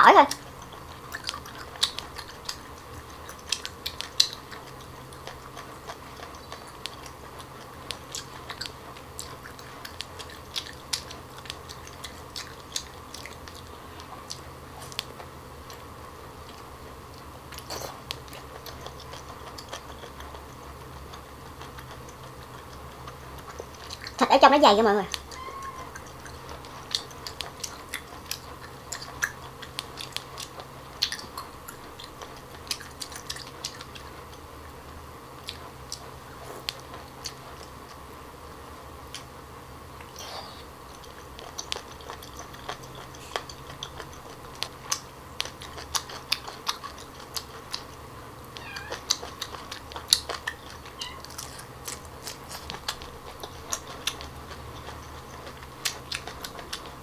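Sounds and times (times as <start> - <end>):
wet chewing and mouth clicks: 0.2 - 24.2, 25.1 - 34.4, 35.4 - 38.1, 40.0 - 57.0.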